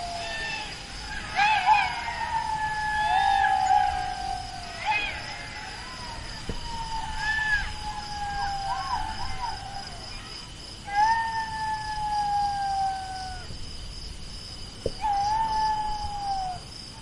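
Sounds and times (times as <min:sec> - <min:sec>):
jackal howling: 0:00.0 - 0:13.5, 0:15.0 - 0:16.6.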